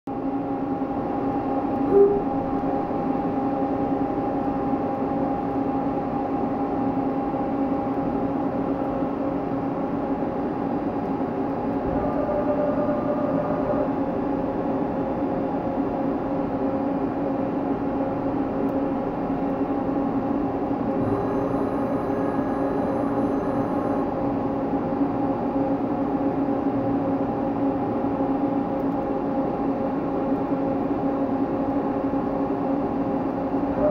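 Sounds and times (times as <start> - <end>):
lathe mechanical hum: 0.1 - 33.9.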